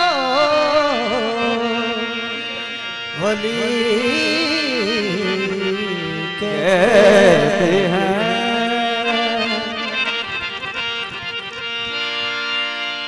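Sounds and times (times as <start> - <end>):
man singing devotional song: 0.0 - 11.8
instrumental accompaniment: 0.0 - 13.0.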